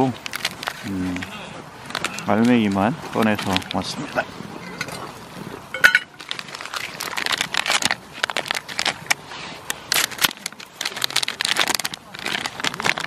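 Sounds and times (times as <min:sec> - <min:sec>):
plastic packaging crinkling: 0:00.1 - 0:03.9, 0:06.0 - 0:13.0.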